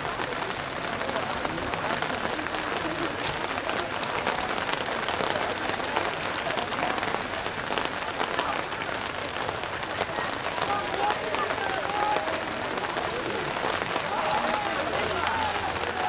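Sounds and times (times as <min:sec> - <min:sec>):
faint crowd voices: 0:00.0 - 0:16.0
people clapping: 0:00.0 - 0:16.0
rain pattering: 0:00.0 - 0:16.0.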